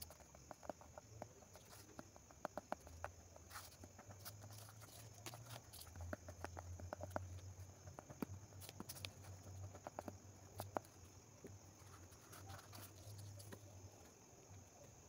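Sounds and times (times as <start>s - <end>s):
glue stick rubbing on paper: 0.0s - 11.1s, 11.7s - 13.8s.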